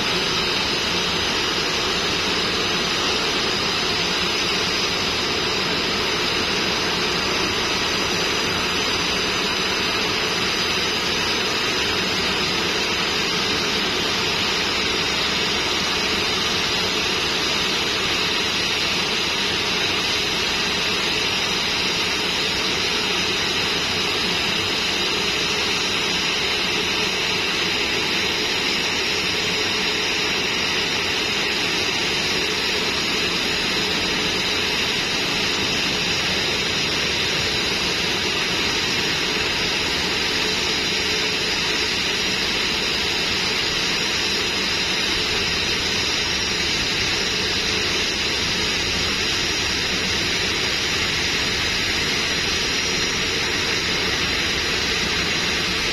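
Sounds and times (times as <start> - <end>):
airliner engines running: 0.0 - 55.9
high steady whine: 0.0 - 55.9.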